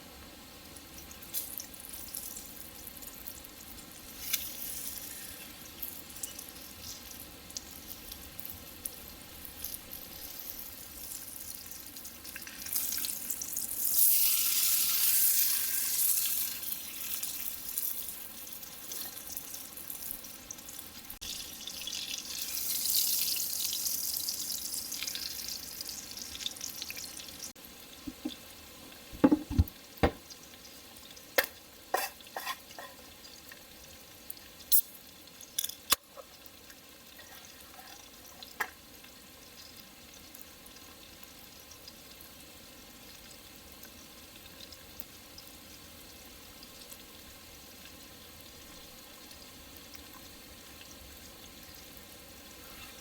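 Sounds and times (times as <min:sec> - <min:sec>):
food sizzling in a pan: 0:00.0 - 0:53.0.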